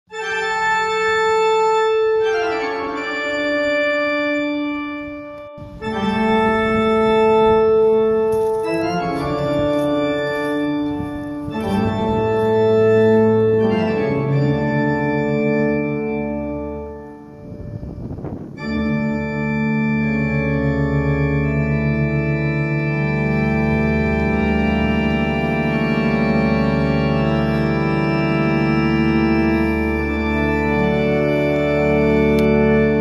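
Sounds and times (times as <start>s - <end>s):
organ playing slow chords: 0.1s - 33.0s.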